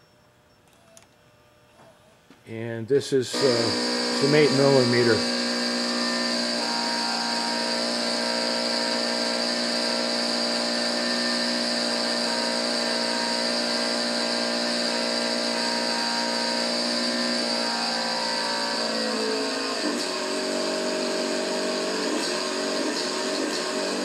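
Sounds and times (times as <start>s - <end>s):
two-stroke engine running: 3.4s - 24.0s.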